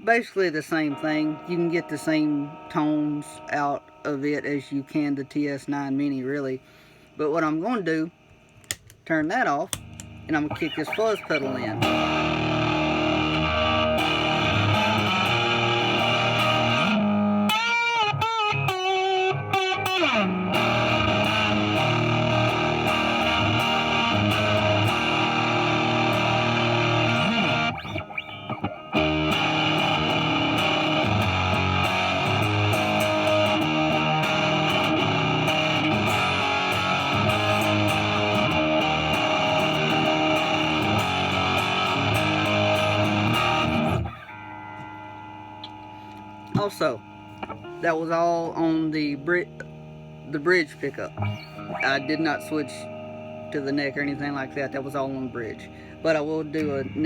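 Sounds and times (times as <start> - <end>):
distorted electric guitar riffs: 0.0 - 57.0.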